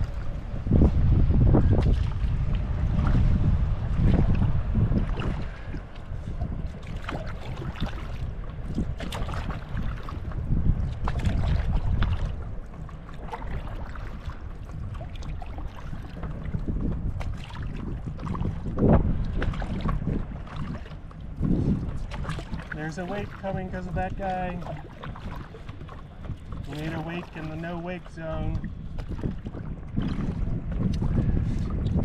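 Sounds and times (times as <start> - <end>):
paddle splashing in water: 0.0 - 32.0
wind rumble on microphone: 0.0 - 32.0.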